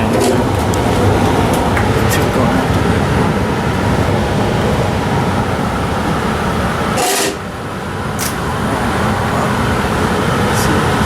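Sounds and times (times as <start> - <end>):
machinery rumbling: 0.0 - 11.0.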